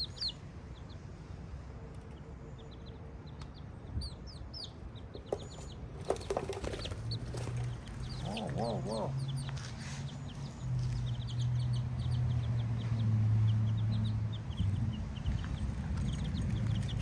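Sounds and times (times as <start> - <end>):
chicks peeping: 0.0 - 0.9, 1.9 - 17.0.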